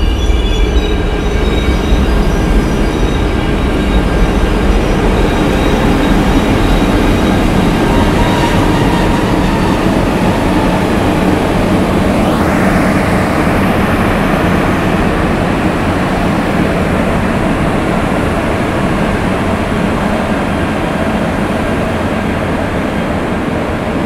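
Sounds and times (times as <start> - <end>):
train wheels rumbling on bridge: 0.0 - 24.0.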